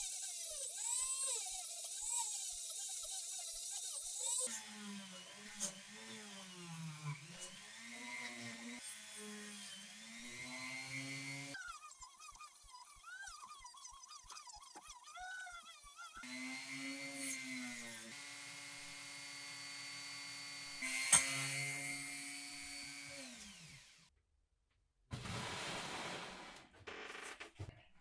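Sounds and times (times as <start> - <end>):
power tool motor running: 0.0 - 24.1.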